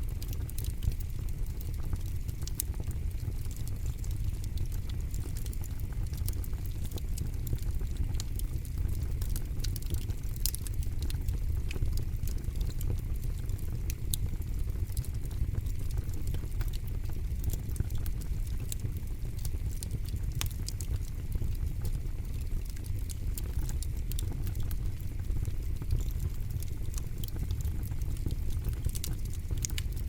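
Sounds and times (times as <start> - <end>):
campfire flames rumbling: 0.0 - 30.0
crackles and pops of fire: 0.0 - 30.0.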